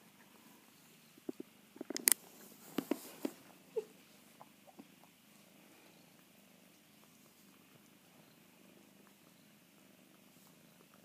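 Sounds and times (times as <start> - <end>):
kitten purring: 0.2 - 11.0.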